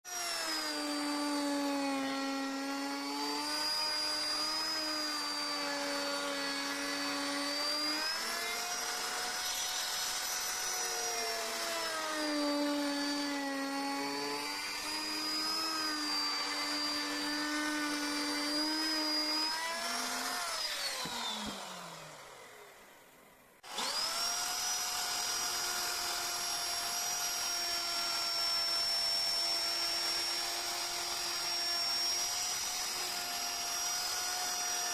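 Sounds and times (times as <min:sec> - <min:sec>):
rotary carving tool on wood: 0:00.1 - 0:22.7, 0:23.6 - 0:34.9.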